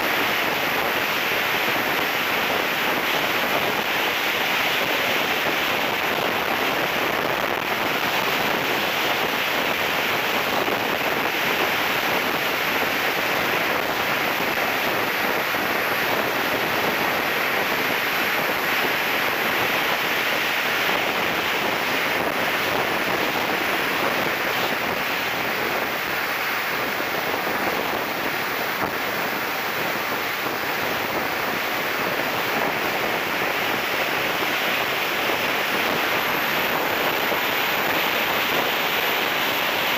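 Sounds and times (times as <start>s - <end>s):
faint high whine: 0.0s - 39.9s
jet turbine: 0.0s - 39.9s
wind rushing over camera: 0.0s - 39.9s.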